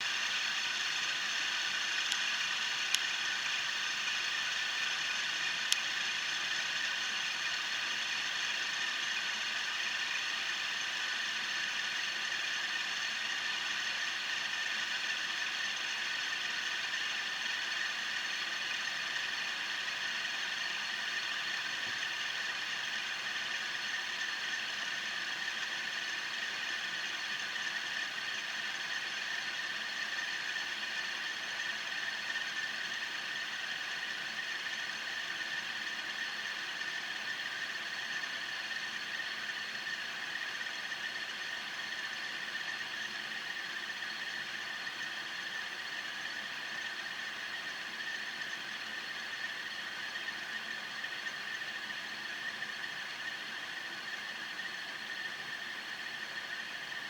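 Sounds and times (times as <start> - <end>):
fidget spinner whirring rattle: 0.0 - 57.0.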